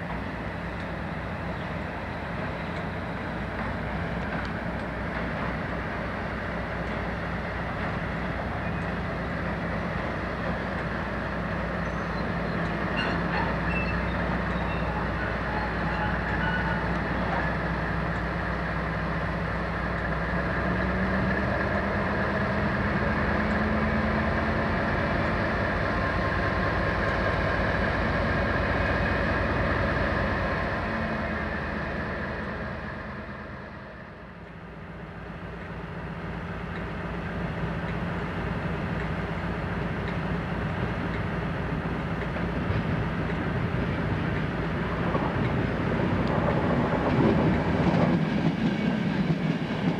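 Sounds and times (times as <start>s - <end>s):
locomotive engine humming and revving: 0.0s - 49.9s.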